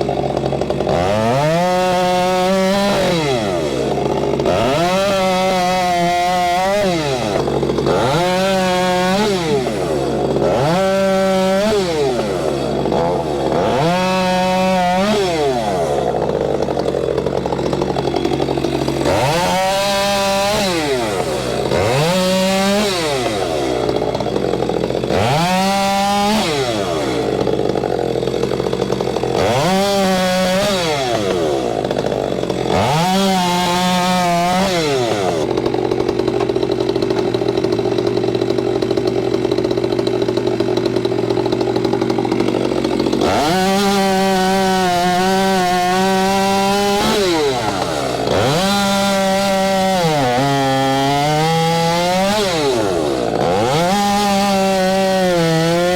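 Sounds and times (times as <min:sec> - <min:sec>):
chainsaw cutting logs: 0:00.0 - 0:55.9.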